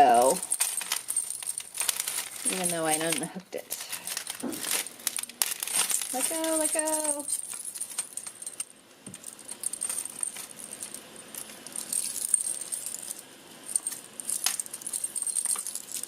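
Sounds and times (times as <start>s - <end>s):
metal chains jingling: 0.0s - 16.0s.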